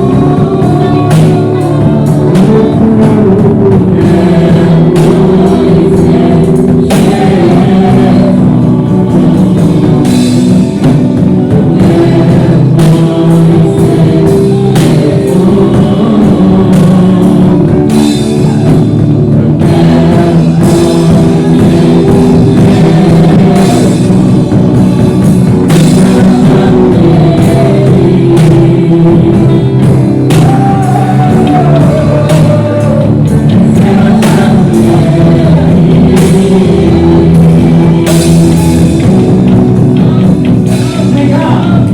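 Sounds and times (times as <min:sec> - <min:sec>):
drum kit: 0:00.0 - 0:41.9
guitars playing: 0:00.0 - 0:41.9.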